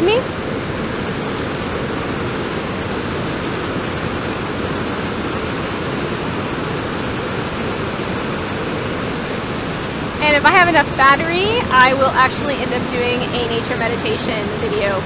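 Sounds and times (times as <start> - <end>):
churning white water: 0.0 - 15.0
waterfall roaring: 0.0 - 15.0.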